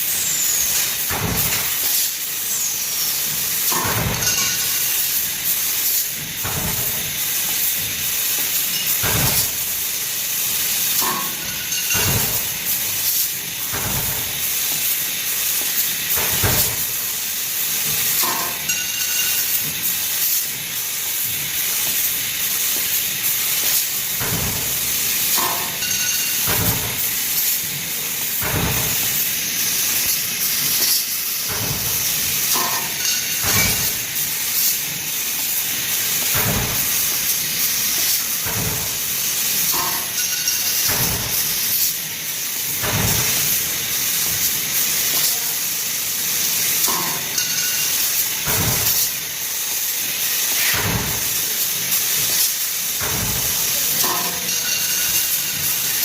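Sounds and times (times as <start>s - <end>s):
cutting machine hiss: 0.0s - 56.0s.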